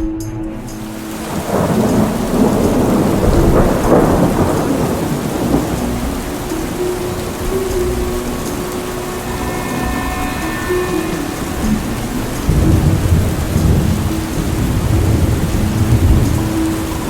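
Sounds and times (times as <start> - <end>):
steady rain: 0.6 - 17.0
rumbling thunder: 0.7 - 17.0.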